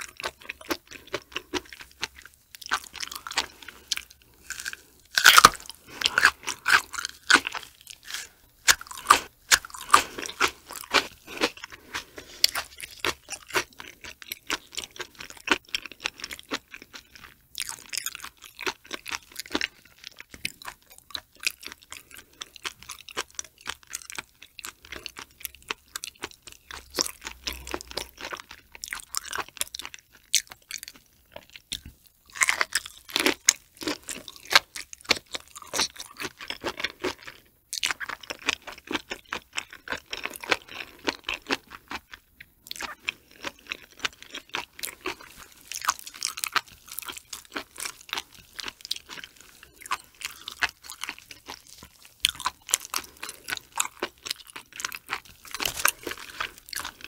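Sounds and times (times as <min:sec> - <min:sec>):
wet chewing crunches: 0:00.0 - 0:57.0.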